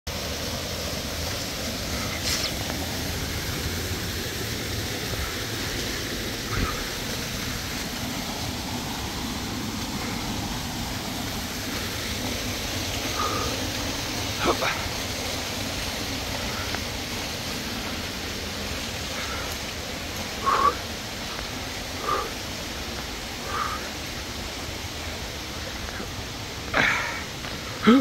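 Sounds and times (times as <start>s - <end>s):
waterfall splashing over boulders: 0.1s - 28.0s.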